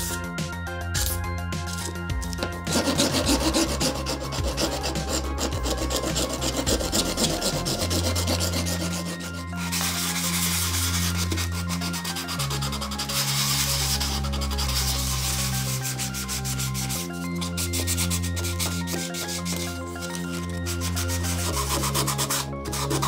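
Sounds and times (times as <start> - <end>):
sandpaper scratching: 0.0 - 0.3, 1.0 - 23.0
file rasping on plastic: 2.6 - 23.0.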